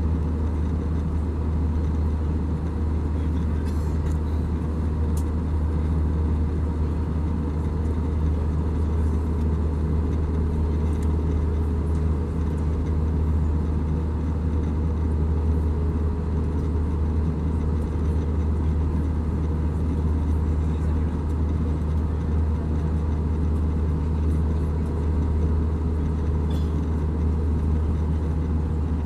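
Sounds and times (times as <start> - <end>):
airplane cabin drone: 0.0 - 29.0
faint steady whine: 0.0 - 29.0.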